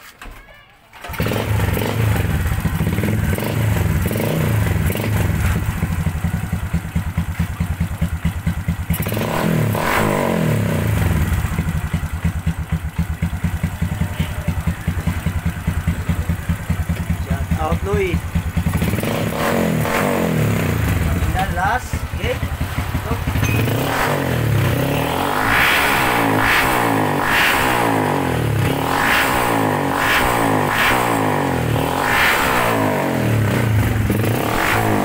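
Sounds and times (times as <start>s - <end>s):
motorcycle engine revving and idling: 1.0s - 35.0s.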